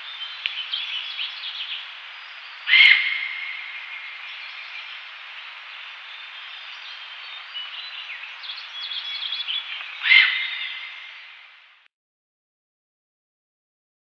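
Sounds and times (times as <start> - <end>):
background hiss: 0.0 - 11.9.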